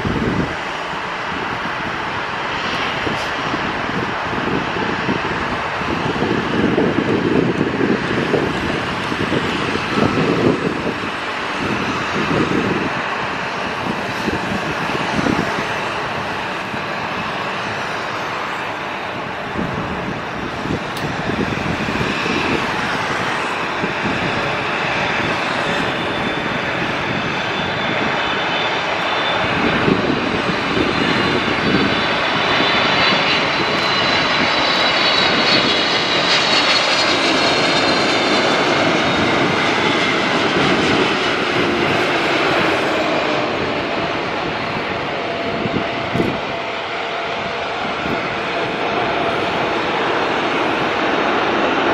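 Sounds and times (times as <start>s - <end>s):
high engine whine: 0.0s - 51.9s
jet engine rumble: 0.0s - 51.9s.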